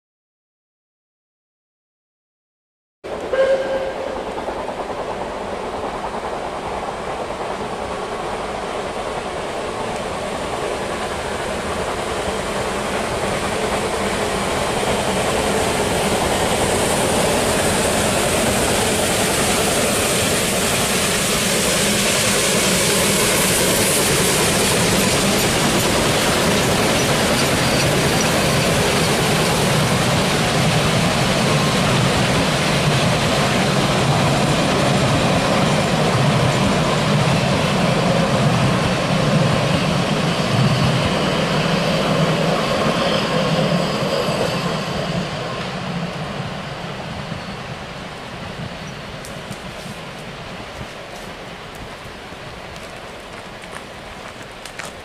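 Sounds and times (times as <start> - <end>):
steam train passing: 3.1 - 55.0.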